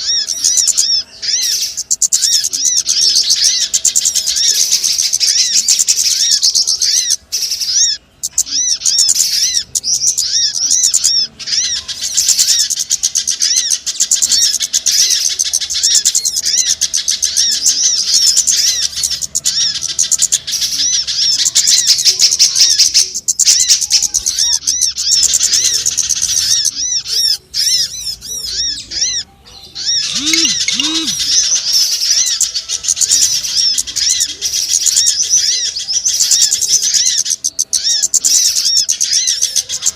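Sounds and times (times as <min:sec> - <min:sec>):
short low bird calls: 0:00.0 - 0:39.9
small songbirds chirping: 0:00.0 - 0:39.9.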